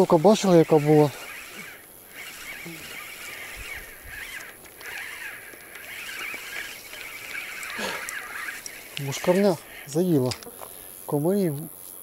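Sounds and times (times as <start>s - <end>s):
chorus of calling animals: 0.0s - 10.1s.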